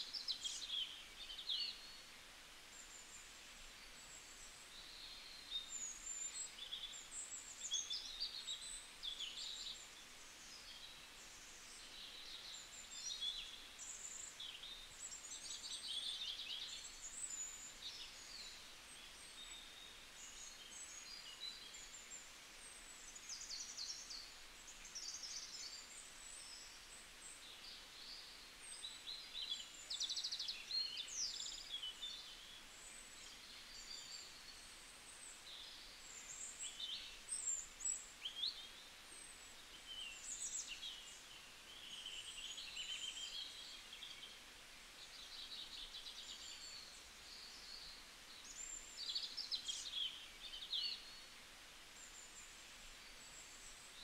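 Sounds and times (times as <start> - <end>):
faint steady hiss: 0.0 - 54.0
songbirds singing: 0.0 - 54.0.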